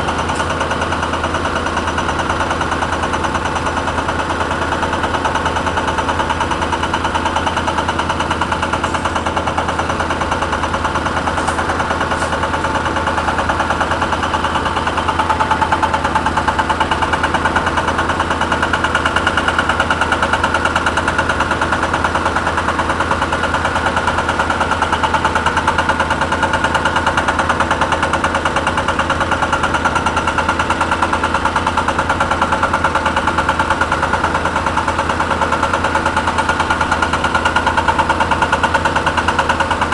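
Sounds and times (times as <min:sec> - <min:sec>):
diesel engine running: 0:00.0 - 0:39.9
hydraulic breaker hammer pounding: 0:00.0 - 0:39.9.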